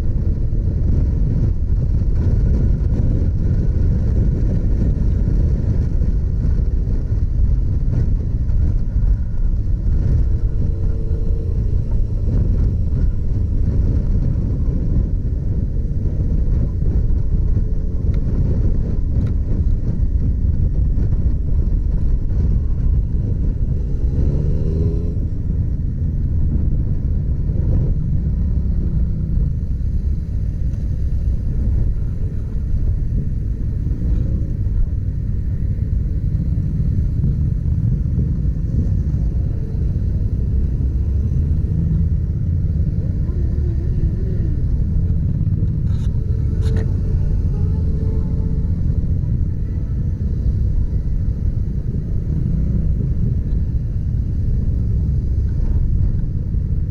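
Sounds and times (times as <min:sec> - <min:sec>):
motorcycle engine rumble: 0:00.0 - 0:56.9
wind noise: 0:00.0 - 0:56.9.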